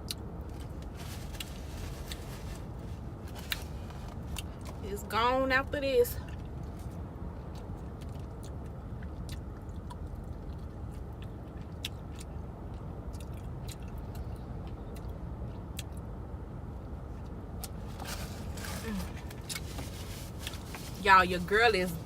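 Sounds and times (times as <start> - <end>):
person chewing close to microphone: 0.0 - 4.8, 6.2 - 16.1, 17.1 - 21.0
steady low hum: 0.0 - 22.0.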